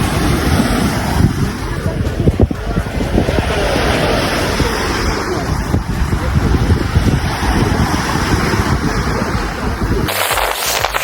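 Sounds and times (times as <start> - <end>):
wind buffeting microphone: 0.0 - 10.2
sea surf on beach: 0.0 - 11.0.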